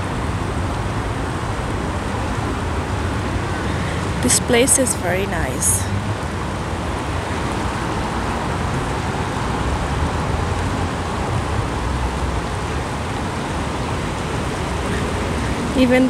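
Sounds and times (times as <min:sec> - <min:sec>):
steady outdoor rushing noise: 0:00.0 - 0:16.0.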